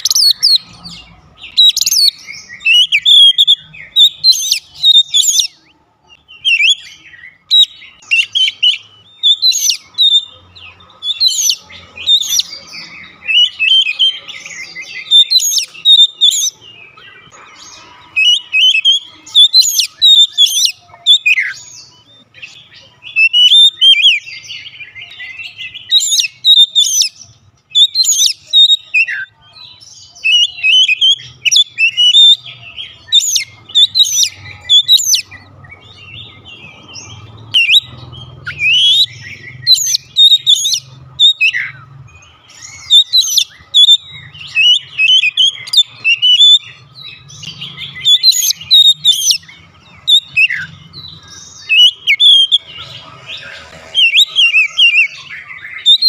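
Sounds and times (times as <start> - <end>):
bird singing whistled phrases: 0.0 - 0.7, 1.5 - 10.3, 11.1 - 16.6, 18.2 - 22.0, 23.0 - 35.5, 37.5 - 41.8, 42.5 - 52.8, 53.9 - 56.0.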